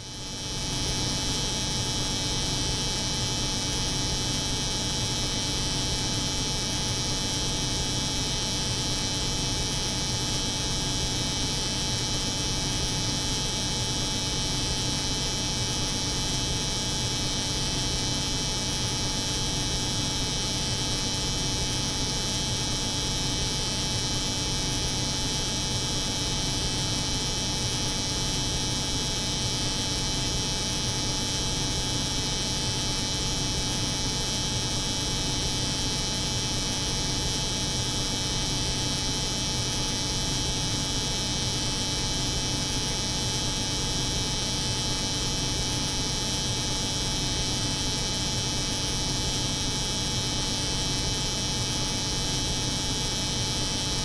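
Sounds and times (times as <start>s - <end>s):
refrigeration unit hum: 0.0s - 54.0s.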